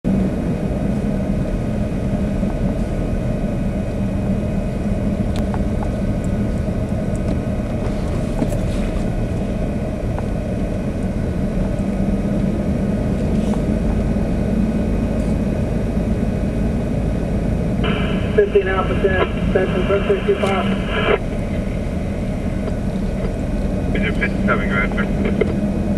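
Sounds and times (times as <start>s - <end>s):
low hum: 0.0s - 25.9s
vehicle engine and road noise: 0.0s - 25.9s.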